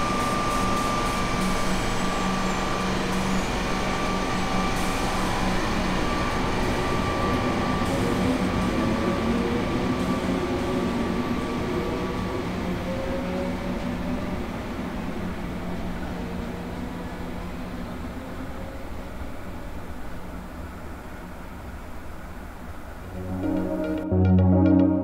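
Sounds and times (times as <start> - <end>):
electric train pulling out: 0.0 - 19.6, 22.4 - 25.0.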